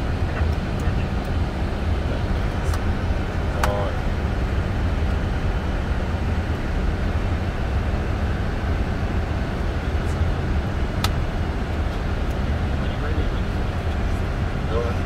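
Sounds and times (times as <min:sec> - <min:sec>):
airflow and engines rumble: 0:00.0 - 0:15.0.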